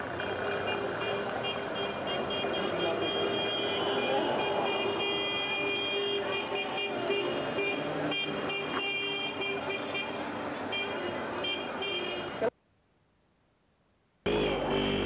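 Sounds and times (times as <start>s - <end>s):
vehicle horns blasting: 0.0s - 12.5s, 14.3s - 15.0s
busy street traffic: 0.0s - 12.7s, 14.2s - 15.0s.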